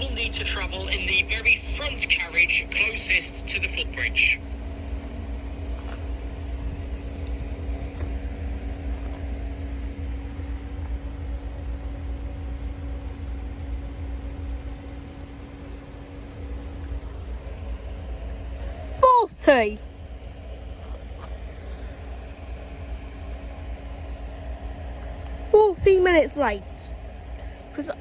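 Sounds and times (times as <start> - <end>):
diesel train engine idling: 0.0 - 28.0.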